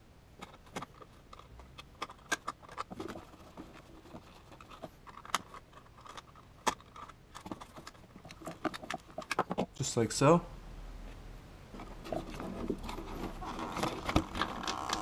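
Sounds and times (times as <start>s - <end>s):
wiring harness plastic rattles: 0.4s - 9.8s, 12.0s - 15.0s.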